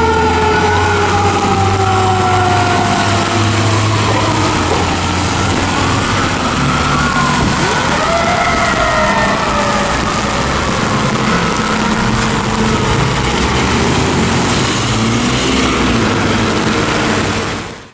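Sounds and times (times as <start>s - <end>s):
siren winding down: 0.0s - 16.9s
diesel engine under load: 0.0s - 17.9s.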